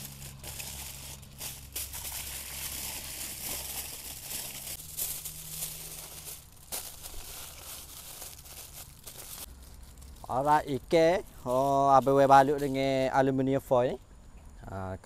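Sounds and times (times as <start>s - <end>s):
aluminium foil crinkling: 0.0s - 13.1s.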